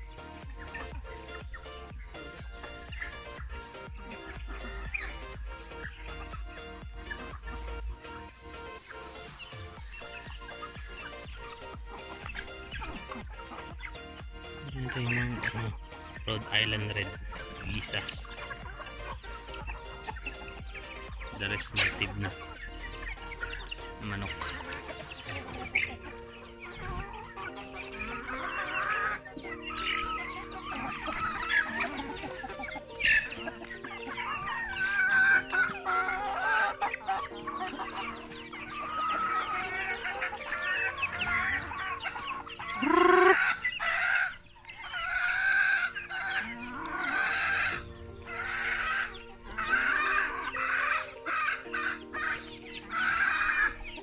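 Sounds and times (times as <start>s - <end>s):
chickens clucking: 0.0s - 54.0s
soft background music: 0.0s - 54.0s.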